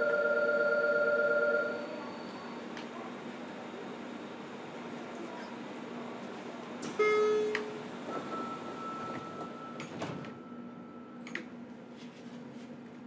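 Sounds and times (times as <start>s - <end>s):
constant train hum: 0.0s - 13.0s.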